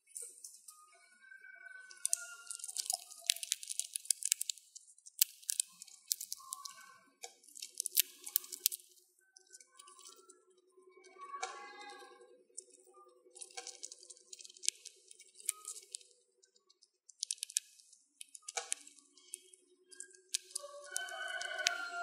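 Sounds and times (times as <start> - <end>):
hamster cracking seeds: 1.9 - 10.2, 12.6 - 22.0.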